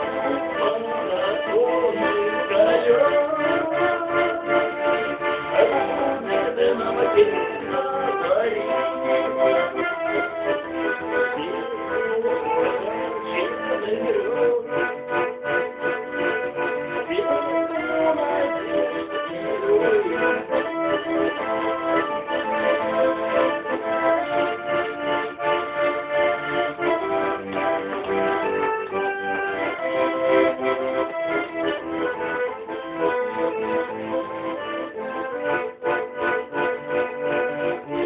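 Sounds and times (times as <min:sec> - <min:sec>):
button accordion playing a tune: 0:00.0 - 0:38.0.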